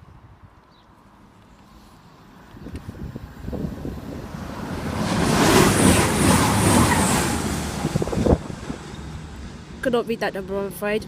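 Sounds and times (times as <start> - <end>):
train passing at speed: 1.1 - 11.0.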